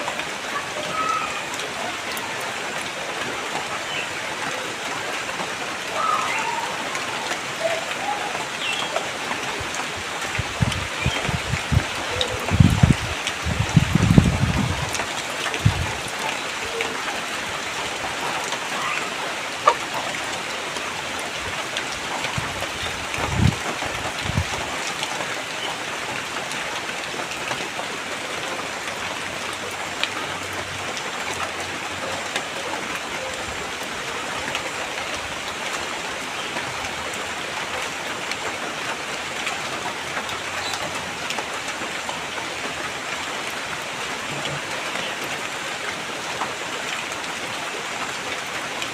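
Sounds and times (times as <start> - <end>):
rain pattering on surfaces: 0.0 - 48.9.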